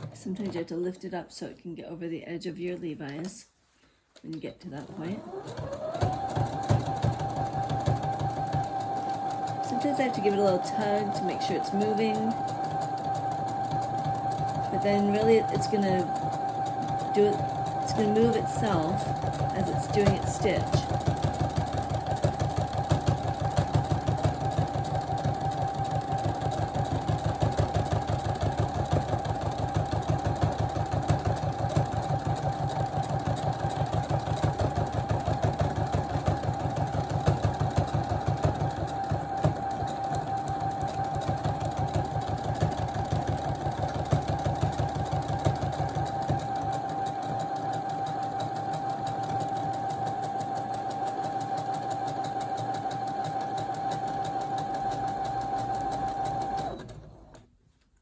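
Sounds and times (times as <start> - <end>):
sewing machine stitching: 0.0 - 0.8, 4.3 - 57.6.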